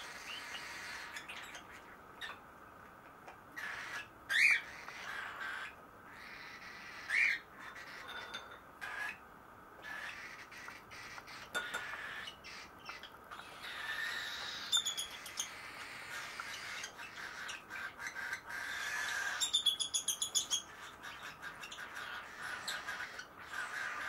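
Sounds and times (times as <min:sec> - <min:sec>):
baby birds begging calls: 0:00.0 - 0:02.4, 0:03.3 - 0:24.0.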